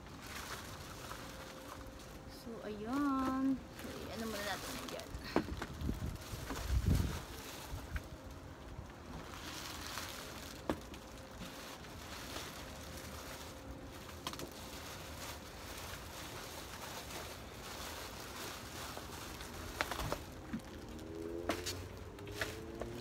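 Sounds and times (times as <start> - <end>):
plastic sheeting crinkling: 0.0 - 23.0.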